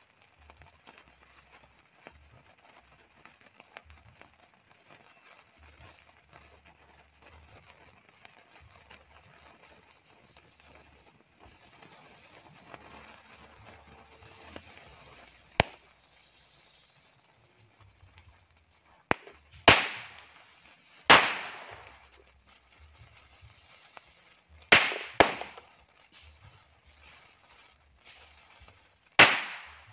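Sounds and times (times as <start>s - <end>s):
burning fuse hissing: 0.0s - 29.9s
firecrackers banging: 0.1s - 29.9s.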